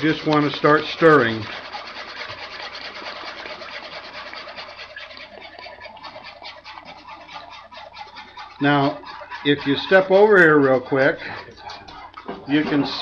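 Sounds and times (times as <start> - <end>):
gravy boiling: 0.0 - 13.0
utensil scraping a pot: 0.0 - 13.0.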